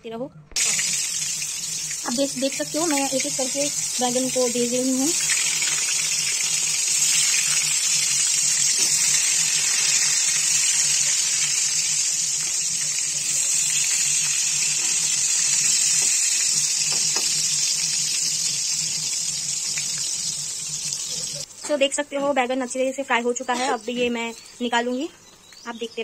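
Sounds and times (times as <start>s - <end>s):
eggplant slices sizzling in oil: 0.6s - 26.0s.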